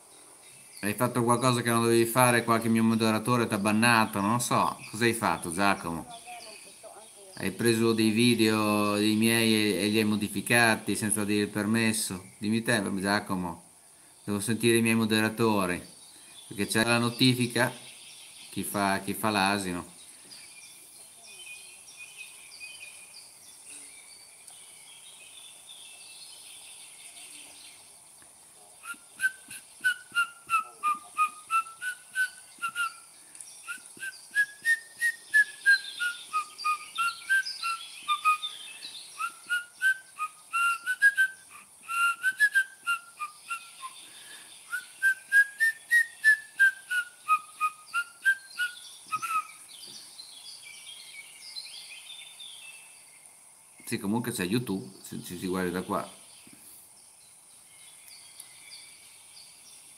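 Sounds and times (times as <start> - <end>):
faint outdoor ambience: 0.0 - 59.9.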